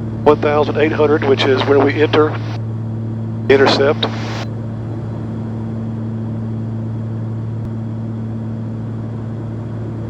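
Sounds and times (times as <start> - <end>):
aircraft engines droning in cabin: 0.0 - 10.0.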